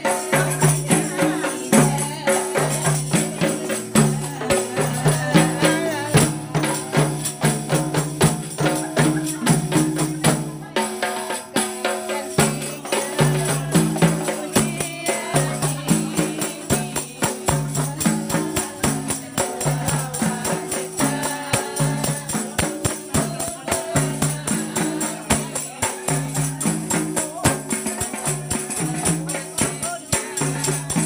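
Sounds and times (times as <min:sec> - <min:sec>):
tambourine jingles: 0:00.0 - 0:11.4, 0:12.1 - 0:31.0
frame drum beats: 0:00.0 - 0:31.0.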